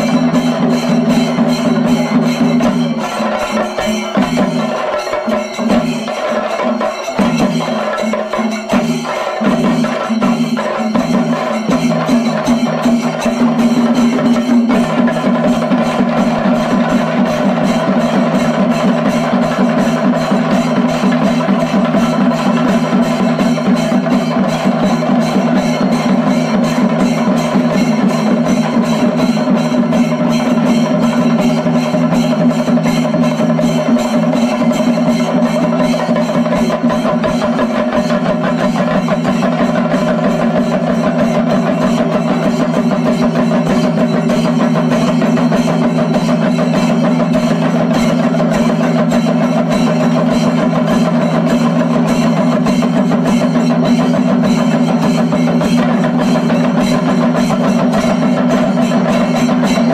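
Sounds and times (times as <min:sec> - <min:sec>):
drum ensemble beating fast: 0:00.0 - 0:59.9.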